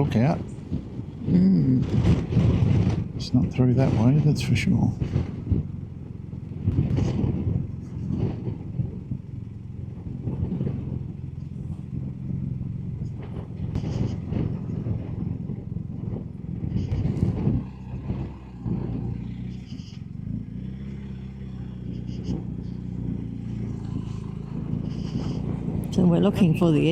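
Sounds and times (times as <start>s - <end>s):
motorcycle engine droning: 0.0s - 26.9s
wind noise on microphone: 0.0s - 26.9s.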